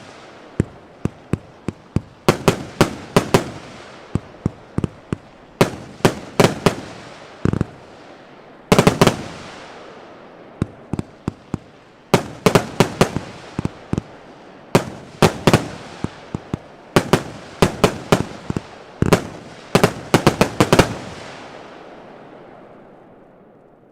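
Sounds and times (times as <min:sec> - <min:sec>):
firework bangs with echo: 0:00.0 - 0:07.9, 0:08.7 - 0:09.9, 0:10.6 - 0:14.2, 0:14.8 - 0:21.4.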